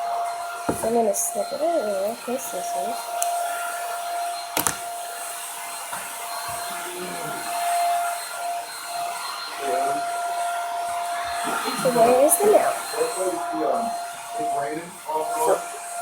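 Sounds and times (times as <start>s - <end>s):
electric appliance motor whirring: 0.0s - 16.0s.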